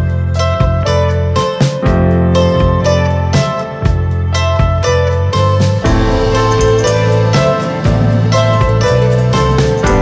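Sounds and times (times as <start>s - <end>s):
gentle melody over held bass: 0.0s - 10.0s.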